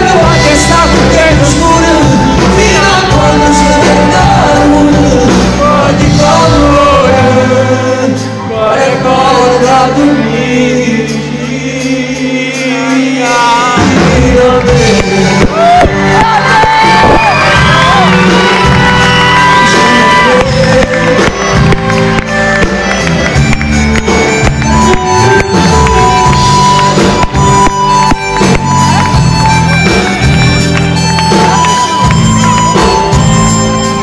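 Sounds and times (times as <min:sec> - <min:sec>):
drum kit beat: 0:00.0 - 0:09.9, 0:12.1 - 0:34.0
bass: 0:00.0 - 0:34.0
held melody line: 0:00.0 - 0:34.0.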